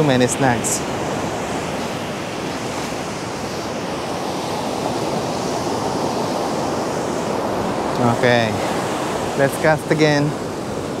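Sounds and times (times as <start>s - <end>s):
ocean surf on sand beach: 0.0s - 11.0s.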